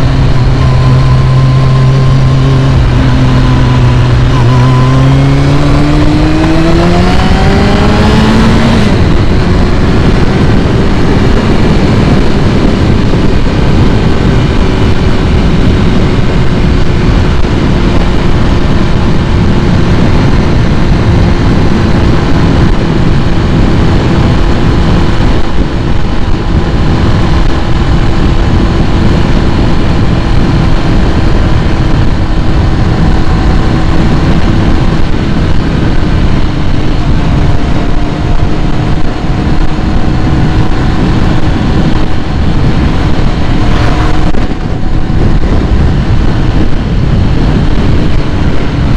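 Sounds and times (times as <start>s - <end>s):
loud rushing noise: 0.0s - 48.9s
motorcycle engine revving: 0.0s - 48.9s.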